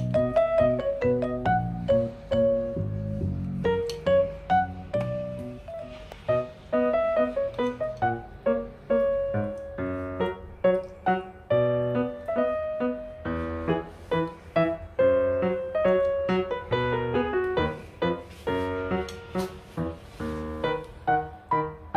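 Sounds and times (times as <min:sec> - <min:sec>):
lively piano music: 0:00.0 - 0:21.9.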